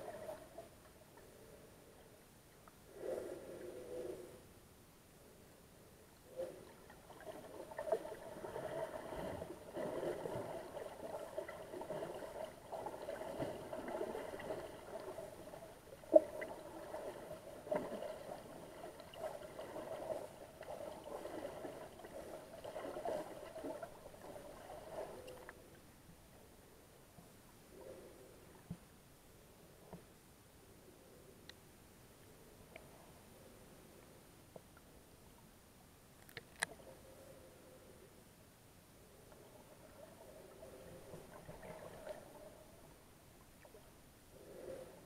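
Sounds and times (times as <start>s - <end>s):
underwater hum: 0.0s - 30.1s, 39.0s - 45.0s.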